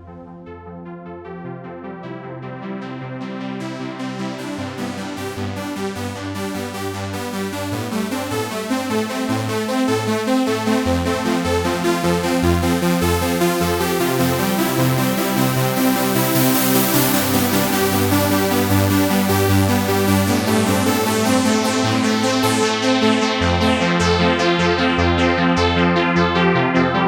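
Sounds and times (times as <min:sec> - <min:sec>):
synthesizer bass line pulsing: 0:00.0 - 0:27.0
synthesizer sustained chords: 0:00.0 - 0:27.0.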